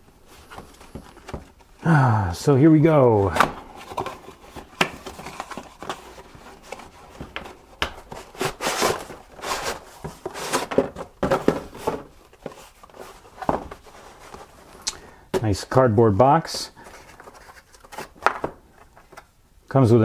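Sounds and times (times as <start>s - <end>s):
cardboard rustling and scraping: 0.1s - 1.8s, 2.8s - 14.8s, 16.7s - 19.2s.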